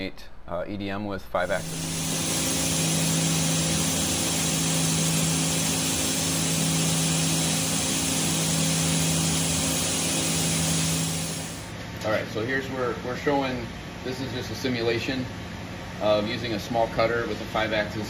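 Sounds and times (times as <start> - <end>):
machining centre humming and hissing: 1.4 - 18.0.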